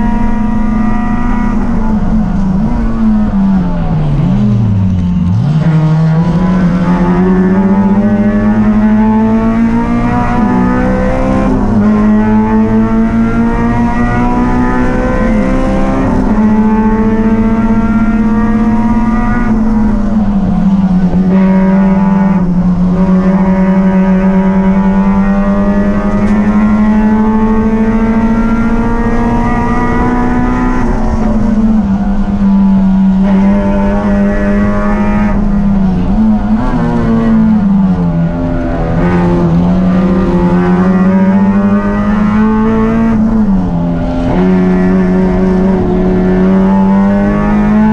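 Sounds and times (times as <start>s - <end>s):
race car engine at high revs: 0.0s - 47.9s.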